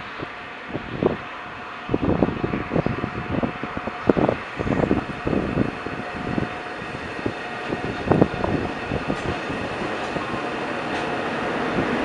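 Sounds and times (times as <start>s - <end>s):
train passing: 0.0s - 12.0s
heavy knocks of train: 2.0s - 12.0s.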